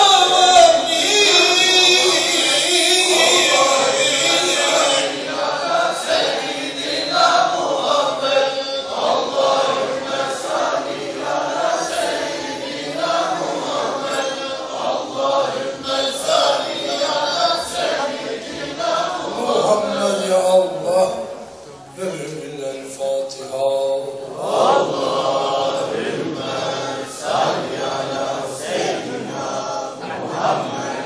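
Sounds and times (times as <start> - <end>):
men chanting in unison: 0.0 - 21.2, 23.6 - 31.0.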